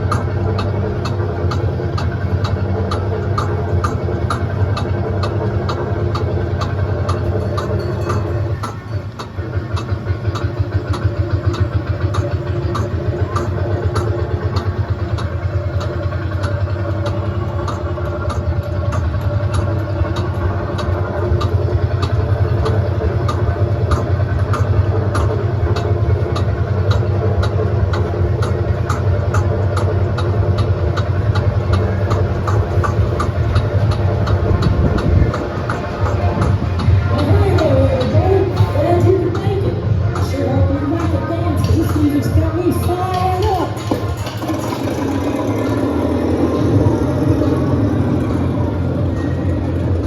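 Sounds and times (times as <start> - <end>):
regular sharp clicks: 0.0 - 50.0
tractor engine running: 0.0 - 50.0.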